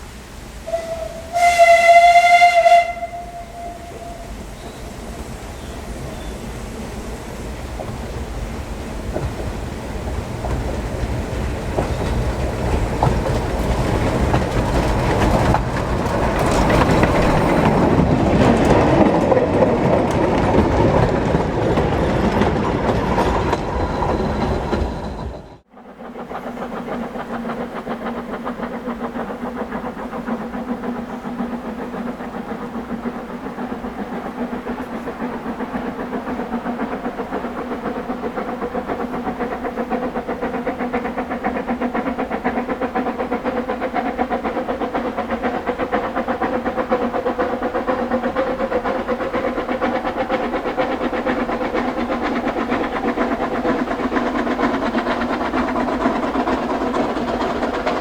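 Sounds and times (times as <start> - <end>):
steam train pulsing beat: 0.7 - 58.0.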